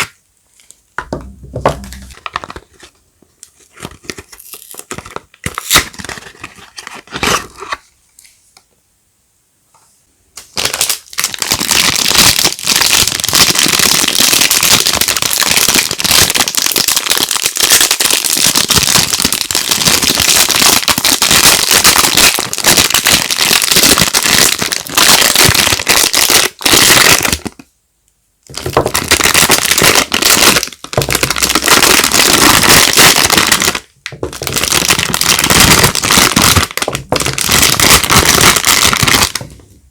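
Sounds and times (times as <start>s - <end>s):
packaging crinkling: 1.0s - 2.9s, 3.5s - 7.8s, 10.5s - 27.6s, 28.5s - 39.6s.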